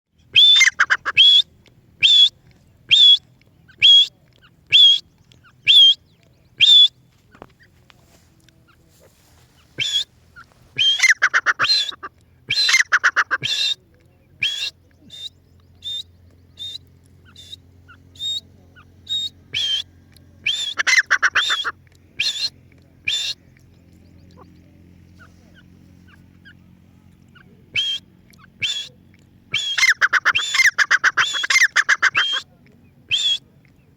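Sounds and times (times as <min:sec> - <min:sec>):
partridge calling: 0:00.2 - 0:32.5, 0:33.1 - 0:33.9.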